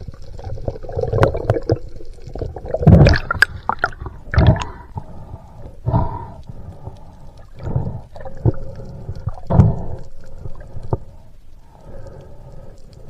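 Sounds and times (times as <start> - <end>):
underwater gurgling water: 0.0 - 13.0.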